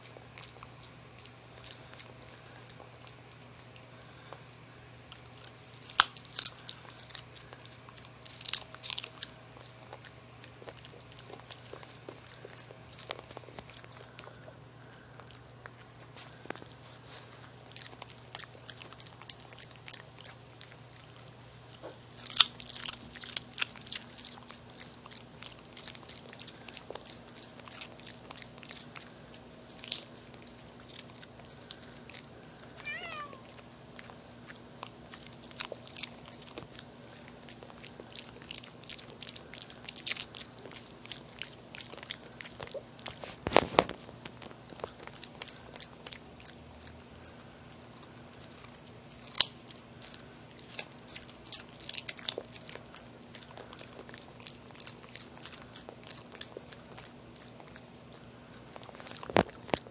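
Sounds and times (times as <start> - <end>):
dog crunching a carrot: 0.0 - 59.9.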